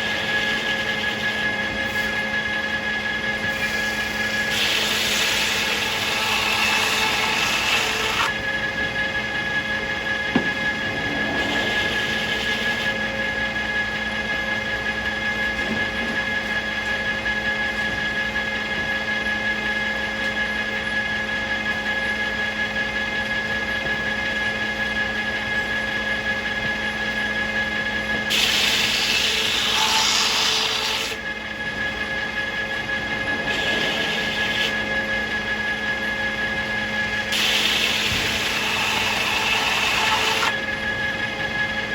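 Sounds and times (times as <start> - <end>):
circular saw humming: 0.0 - 18.7, 24.3 - 41.9.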